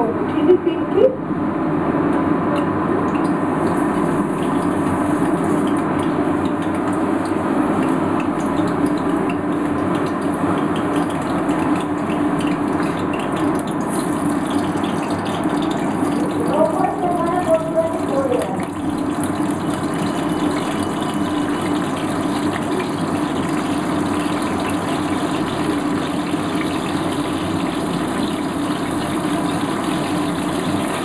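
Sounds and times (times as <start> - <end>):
oil heating in a wok: 1.9 - 31.0.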